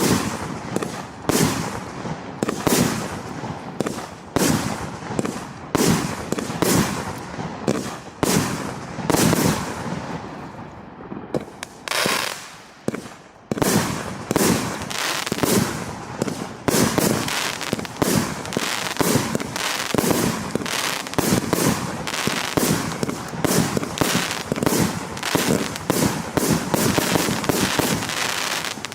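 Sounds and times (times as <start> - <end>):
firework shots and bursts: 0.0 - 28.9.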